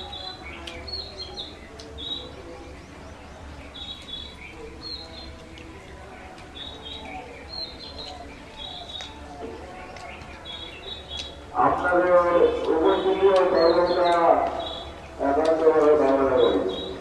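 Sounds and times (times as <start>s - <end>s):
eating with hands and chewing: 0.0s - 2.0s, 4.0s - 17.0s
birds chirping: 0.0s - 17.0s.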